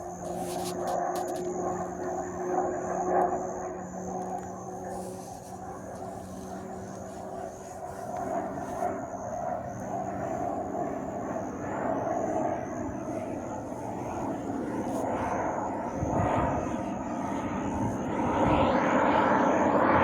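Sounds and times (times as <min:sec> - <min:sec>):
airplane engine: 0:00.0 - 0:20.0.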